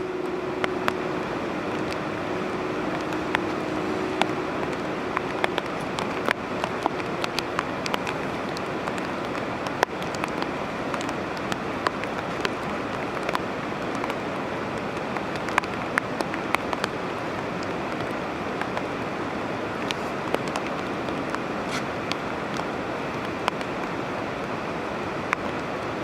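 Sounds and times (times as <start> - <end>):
raindrops tapping close by: 0.0 - 24.6
steady rain: 0.0 - 26.0.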